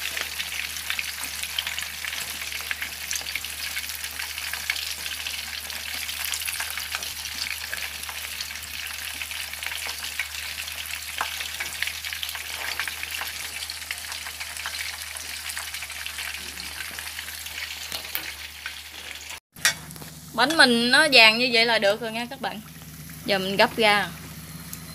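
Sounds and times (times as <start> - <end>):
frying oil sizzling and popping: 0.0 - 24.9.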